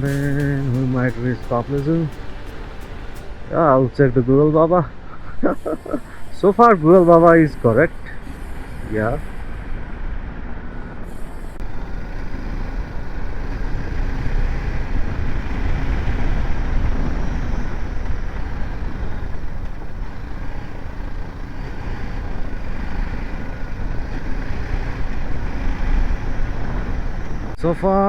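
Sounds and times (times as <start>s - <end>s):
road noise: 0.0s - 27.7s.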